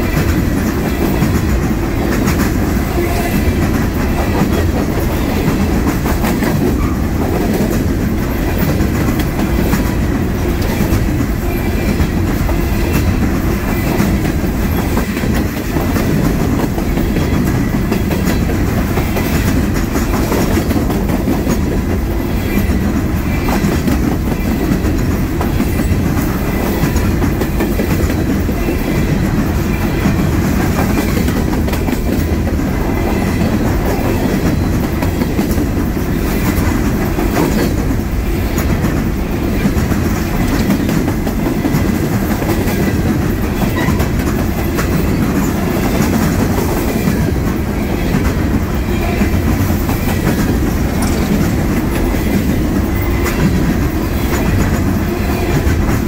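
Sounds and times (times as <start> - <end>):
clickety-clack over rail joints: 0.0 - 56.0
freight train wheels rumbling on rails: 0.0 - 56.0.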